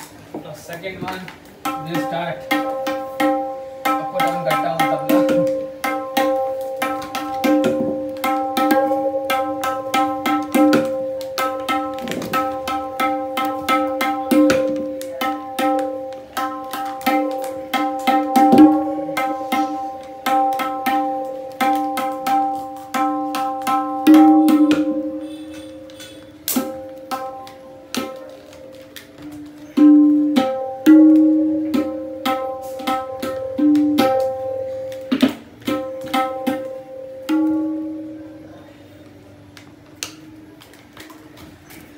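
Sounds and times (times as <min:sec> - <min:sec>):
tabla strokes ringing: 0:00.6 - 0:38.4.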